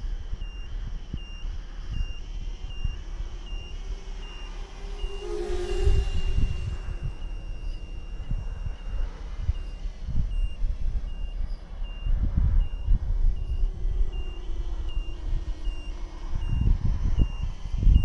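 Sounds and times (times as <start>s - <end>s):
low rumble: 0.0s - 18.0s
short high electronic beeps: 0.4s - 18.0s.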